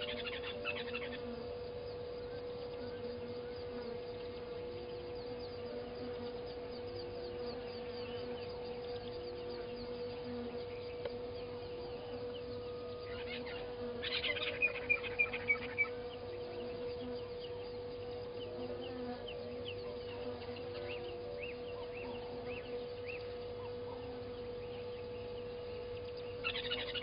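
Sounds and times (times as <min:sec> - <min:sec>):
insects chirping: 0:00.0 - 0:27.0
lapwing calling: 0:00.0 - 0:27.0
small birds chirping: 0:00.0 - 0:27.0
steady low hum: 0:00.0 - 0:27.0.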